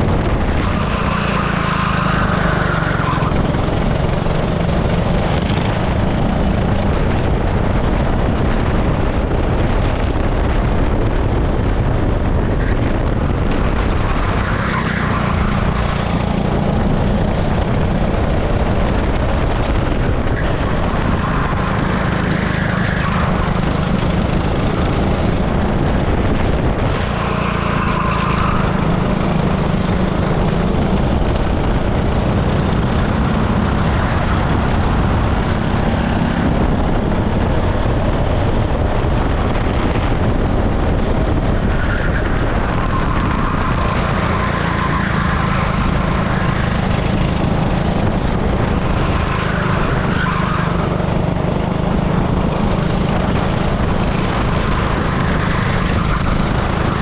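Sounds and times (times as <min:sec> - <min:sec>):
kart engine drone: 0:00.0 - 0:57.0.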